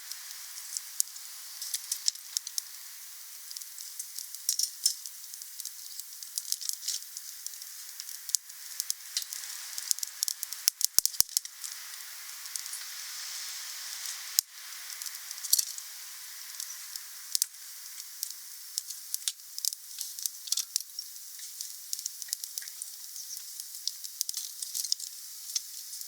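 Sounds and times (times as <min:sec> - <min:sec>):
wood fire crackling: 0:00.3 - 0:12.9, 0:13.9 - 0:26.0.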